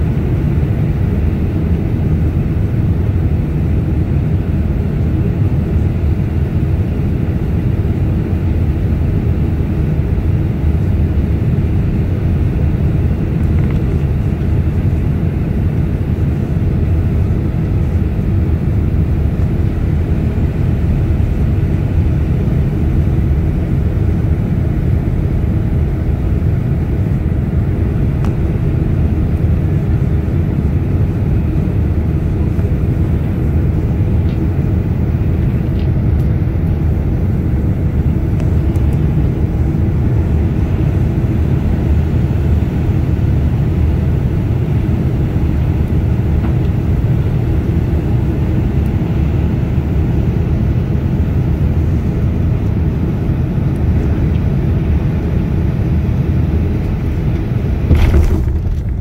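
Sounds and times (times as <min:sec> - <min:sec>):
jet cabin engine rumble: 0:00.0 - 0:59.0.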